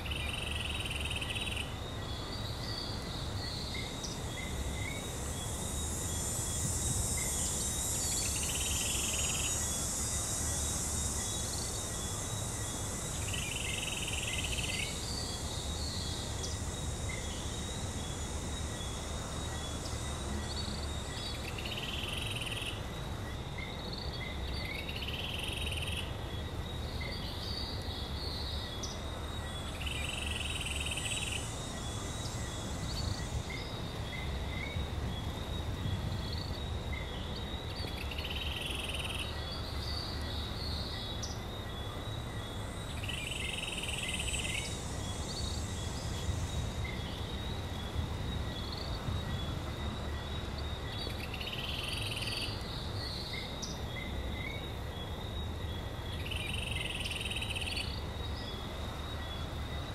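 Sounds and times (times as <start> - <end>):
high insect hiss: 0.0 - 59.9
insect drone: 0.0 - 59.9.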